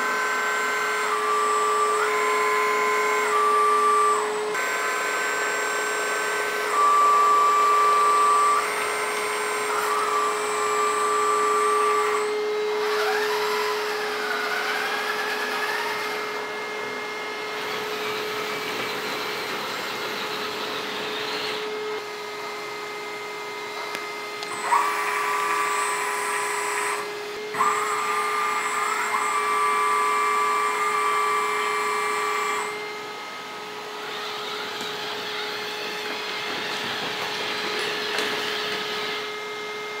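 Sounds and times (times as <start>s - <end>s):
hydraulic pump whining: 0.0s - 40.0s.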